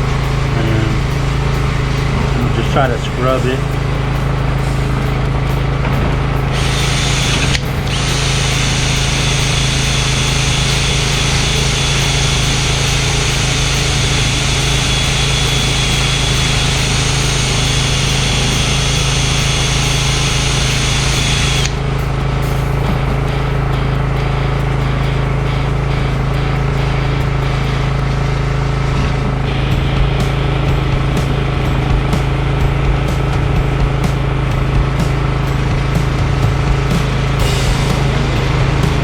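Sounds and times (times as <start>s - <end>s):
power sander running: 0.0s - 39.0s
steady low hum: 0.0s - 39.0s.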